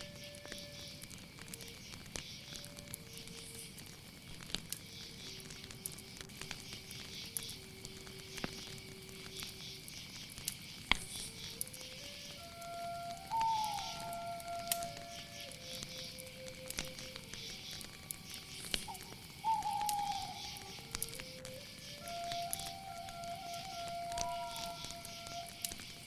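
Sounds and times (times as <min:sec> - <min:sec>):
crackling clicks: 0:00.0 - 0:26.0
high insect chirring: 0:00.0 - 0:26.0.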